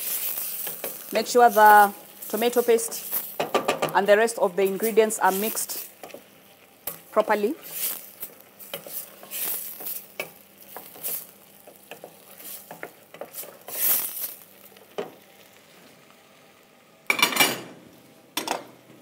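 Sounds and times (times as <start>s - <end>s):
food sizzling in pot: 0.0s - 19.0s.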